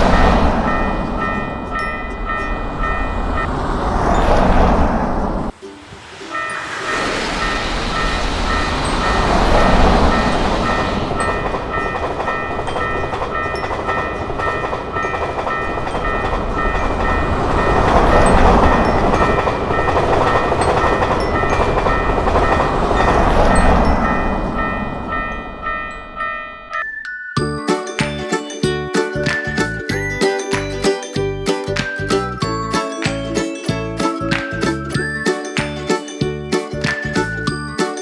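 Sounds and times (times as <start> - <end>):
passing electric train rumble: 0.0 - 26.8, 27.4 - 38.0
level-crossing warning bell: 0.0 - 38.0.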